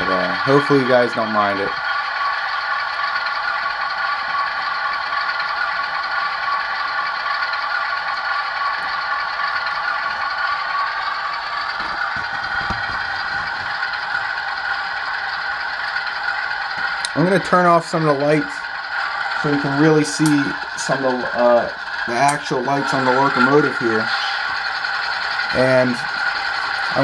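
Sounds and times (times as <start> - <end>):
model locomotive engine sound: 0.0 - 27.0
rattle: 0.0 - 27.0.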